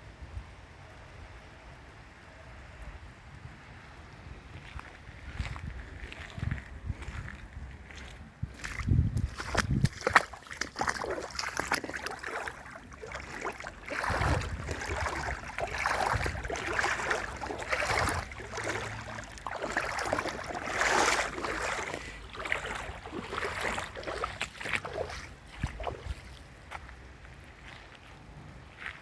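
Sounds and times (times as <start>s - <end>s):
muddy water sloshing and splashing: 4.6s - 29.0s.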